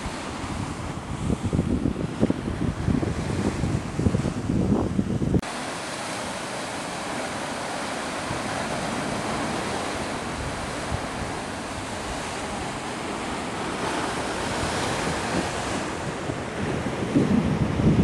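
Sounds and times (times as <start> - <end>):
sea surf breaking on rocks: 0.0 - 18.0
wind on microphone: 0.0 - 18.0.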